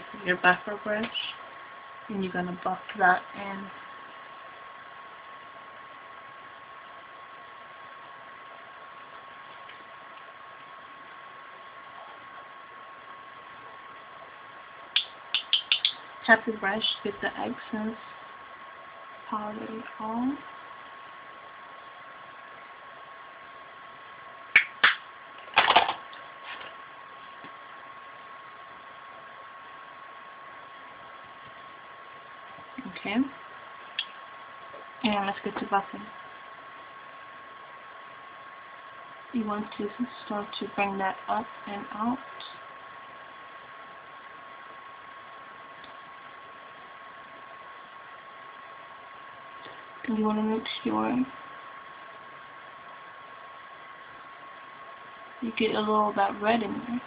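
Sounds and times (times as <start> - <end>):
background hiss: 0.0 - 57.0
faint constant tone: 0.0 - 57.0
faint high-pitched whine: 0.0 - 57.0.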